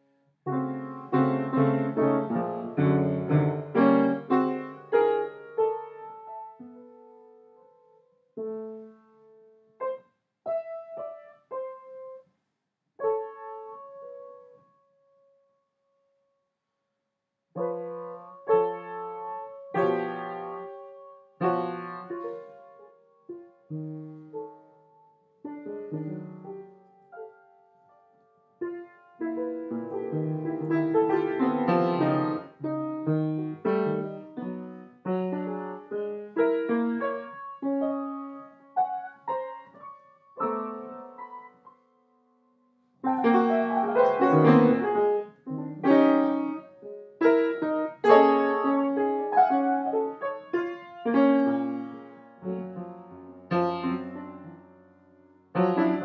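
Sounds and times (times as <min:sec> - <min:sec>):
solo piano music: 0:00.0 - 0:12.3, 0:13.0 - 0:15.5, 0:17.6 - 0:56.0.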